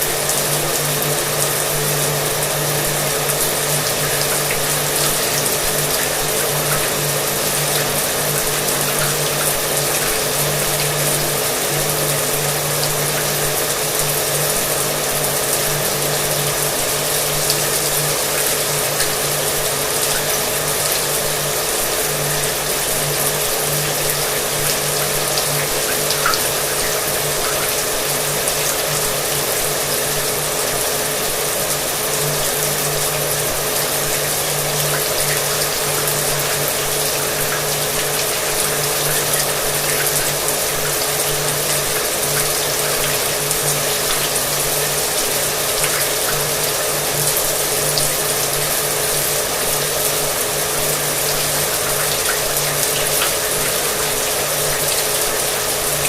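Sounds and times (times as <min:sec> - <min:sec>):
shower water spraying: 0:00.0 - 0:56.0.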